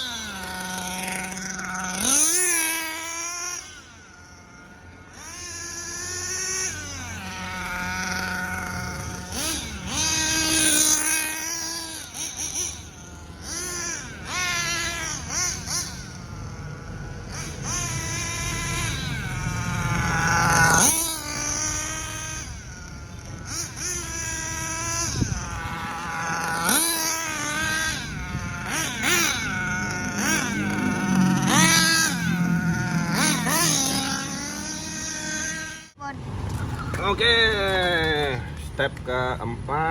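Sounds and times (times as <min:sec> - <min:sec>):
model buggy engine revving: 0:00.0 - 0:39.9.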